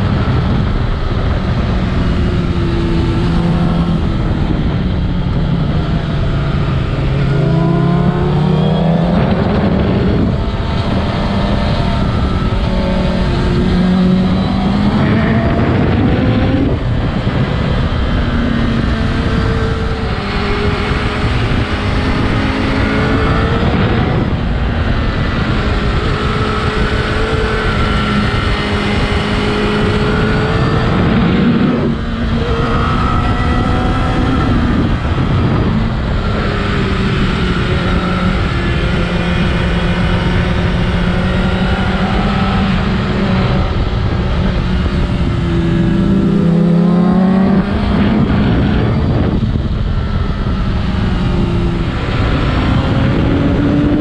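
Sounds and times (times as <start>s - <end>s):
motorcycle engine revving under load: 0.0s - 54.0s.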